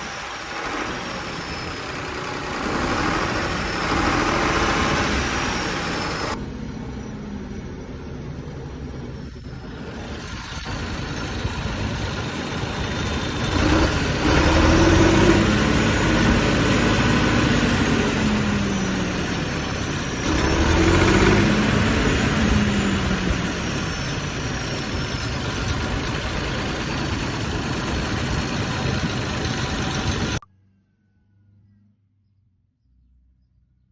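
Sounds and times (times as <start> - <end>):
diesel tractor engine revving: 0.0 - 30.4.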